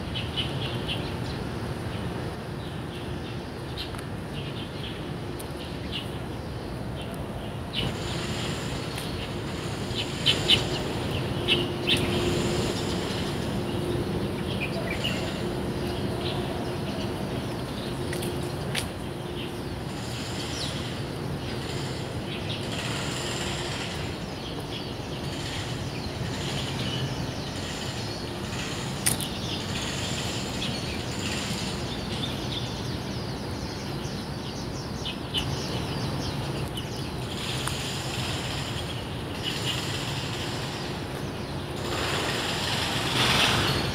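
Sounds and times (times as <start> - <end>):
outdoor background rumble: 0.0 - 43.9
small birds chirping: 0.0 - 43.9.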